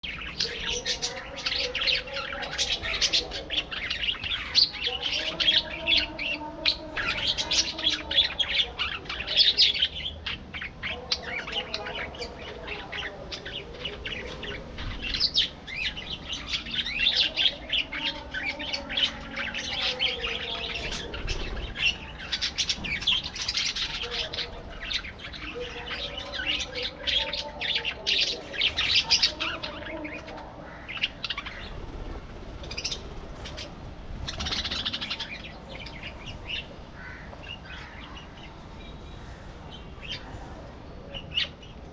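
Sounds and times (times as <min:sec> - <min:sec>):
flock of budgerigars chattering: 0:00.0 - 0:41.9.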